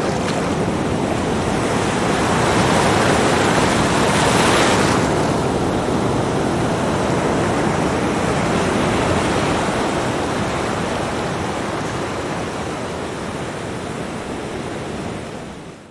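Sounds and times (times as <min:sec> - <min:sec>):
waves breaking on beach: 0:00.0 - 0:15.9.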